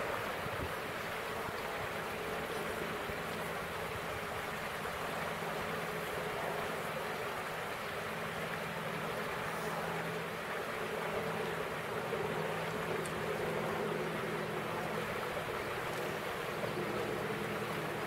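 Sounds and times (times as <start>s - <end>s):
fast-flowing river rushing: 0.0s - 18.0s.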